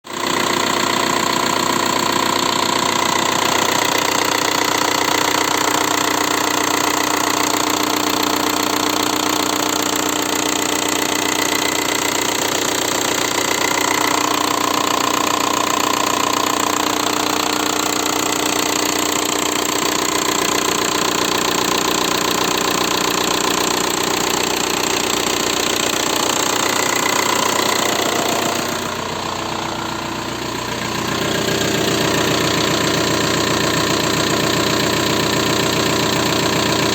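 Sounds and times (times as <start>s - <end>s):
diesel engine running with rapid knock: 0.0s - 36.9s.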